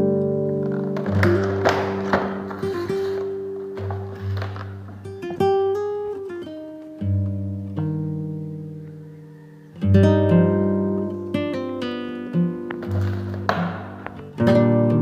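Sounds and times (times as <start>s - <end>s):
plucked acoustic guitar: 0.0s - 9.0s, 9.7s - 15.0s.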